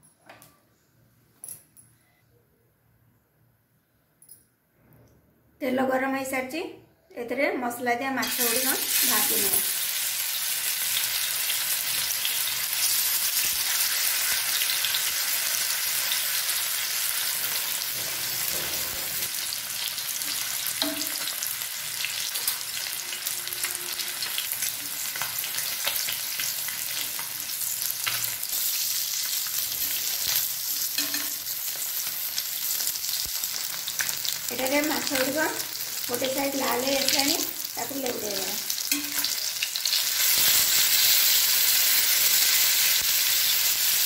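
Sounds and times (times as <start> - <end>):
fish sizzling in oil: 8.2 - 44.0.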